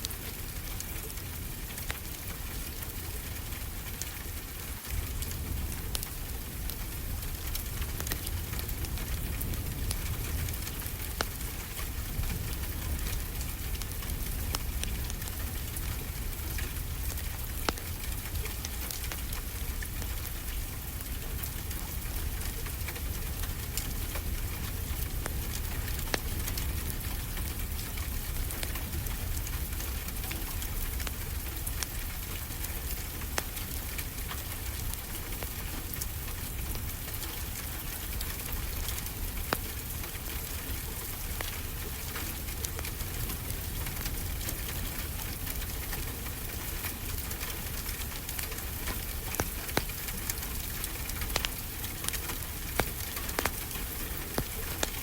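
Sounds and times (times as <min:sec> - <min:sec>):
rain hissing: 0:00.0 - 0:55.0
wood fire popping and crackling: 0:00.0 - 0:55.0.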